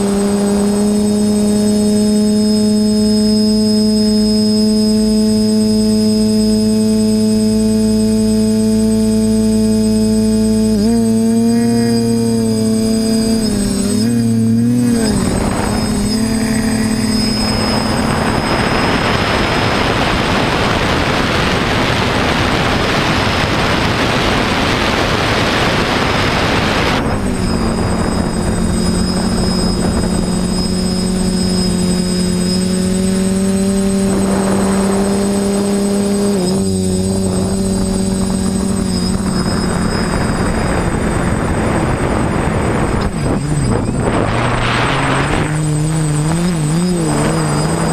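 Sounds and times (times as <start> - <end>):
drone motors and propellers whining: 0.0 - 47.9
wind noise: 0.0 - 47.9.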